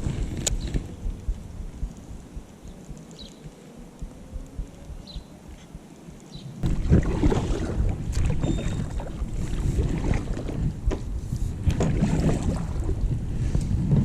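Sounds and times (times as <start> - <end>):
low rumble on microphone: 0.0 - 14.0.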